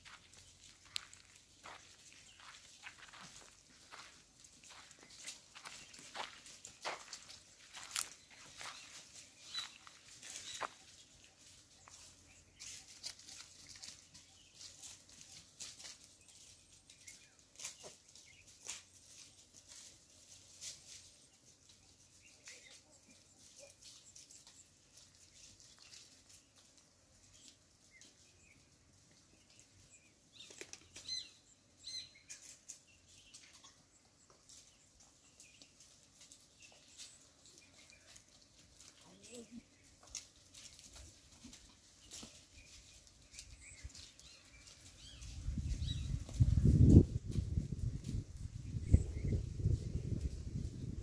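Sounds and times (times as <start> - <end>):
goats clicking and rustling: 0.0 - 51.0.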